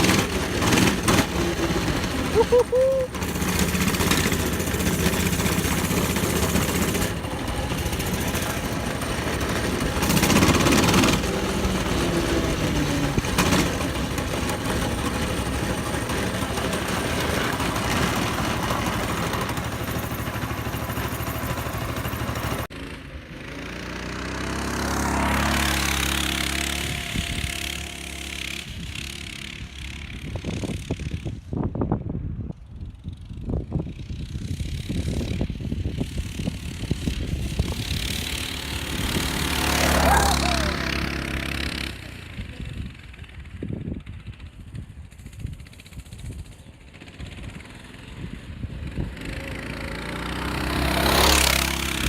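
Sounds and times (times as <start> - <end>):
small engine running rattly: 0.0 - 31.6, 32.8 - 52.0.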